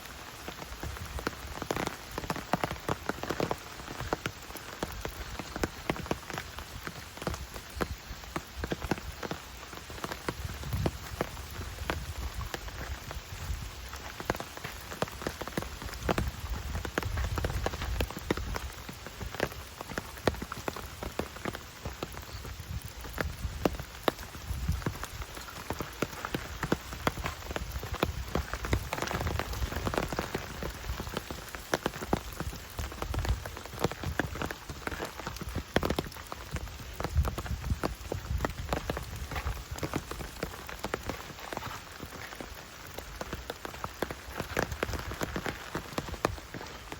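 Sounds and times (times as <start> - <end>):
rain hiss: 0.0 - 46.9
raindrops ticking: 0.0 - 46.9.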